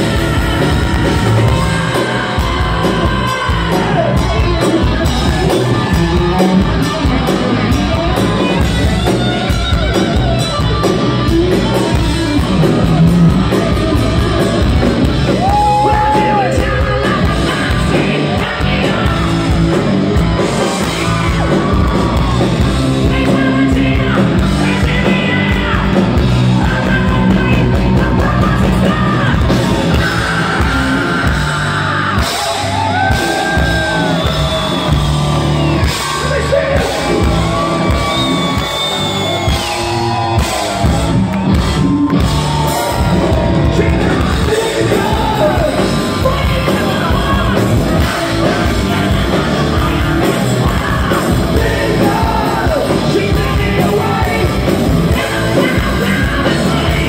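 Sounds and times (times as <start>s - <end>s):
hard rock band playing: 0.0s - 57.0s.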